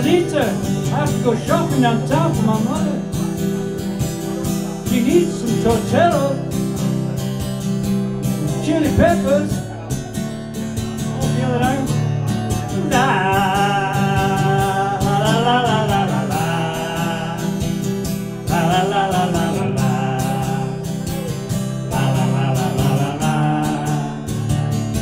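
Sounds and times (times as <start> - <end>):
man singing long notes: 0.0 - 3.4, 4.7 - 7.0, 8.2 - 9.9, 10.8 - 25.0
acoustic guitar strumming: 0.0 - 25.0.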